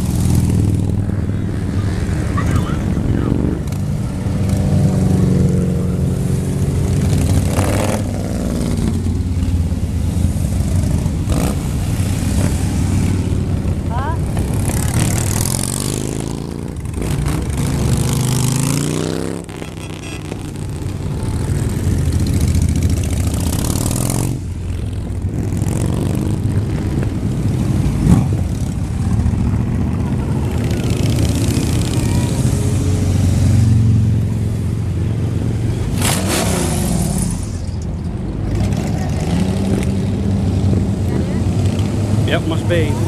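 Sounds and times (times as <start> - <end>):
motorcycles passing by: 0.0 - 43.0.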